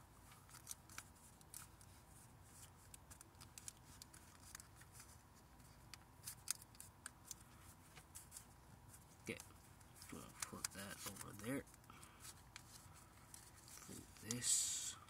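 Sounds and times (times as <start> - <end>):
paper crinkling being folded: 0.2 - 14.5.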